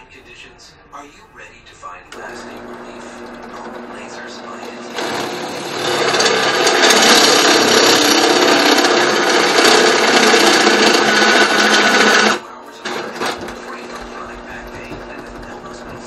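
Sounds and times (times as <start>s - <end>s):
motor hum: 2.1s - 16.0s
drill press drilling metal: 2.2s - 16.0s.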